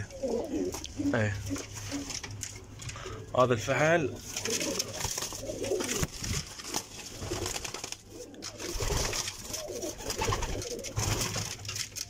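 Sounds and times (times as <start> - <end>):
pigeons cooing: 0.0 - 3.3, 4.0 - 11.6.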